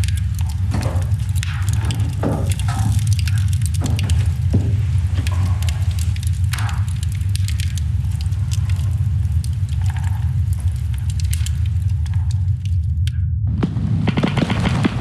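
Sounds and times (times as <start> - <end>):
wood fire crackling: 0.0 - 13.1, 13.7 - 15.0
steady low rumble: 0.0 - 15.0.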